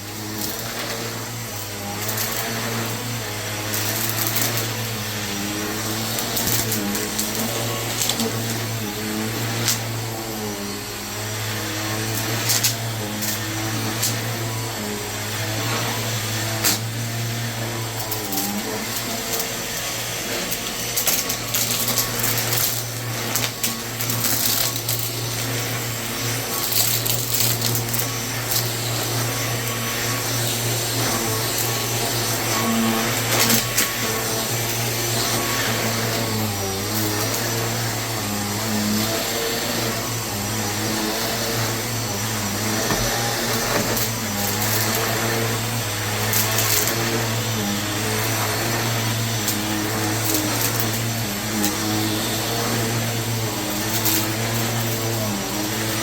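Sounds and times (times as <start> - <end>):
vacuum cleaner motor hum: 0.0 - 56.0.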